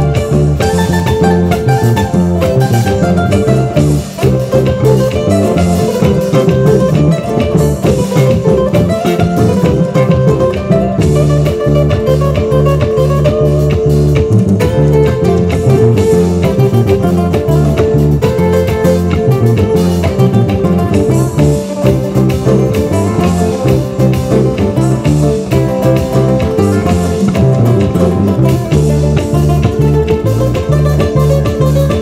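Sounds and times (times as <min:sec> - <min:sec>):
acoustic guitar plucked melody: 0:00.0 - 0:32.0
live band music: 0:00.0 - 0:32.0
rhythmic bass line: 0:00.0 - 0:32.0.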